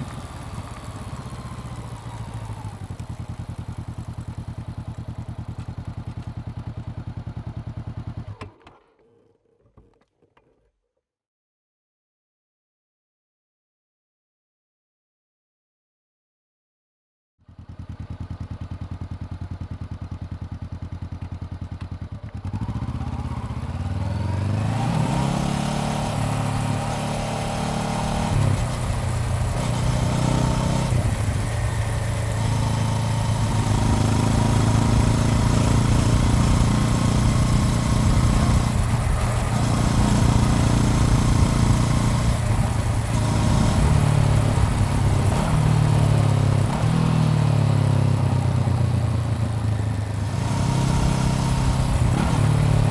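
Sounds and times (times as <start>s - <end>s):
motorcycle engine accelerating: 0.0s - 8.6s, 17.5s - 52.9s.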